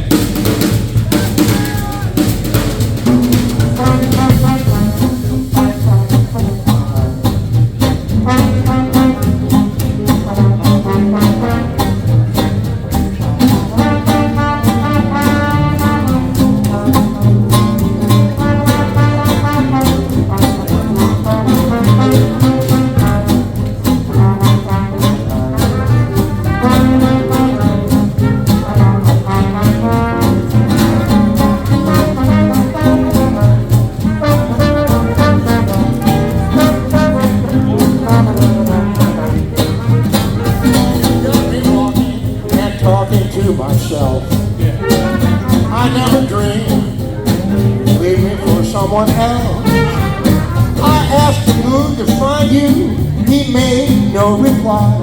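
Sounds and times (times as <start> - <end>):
swing jazz band playing: 0.0 - 55.0.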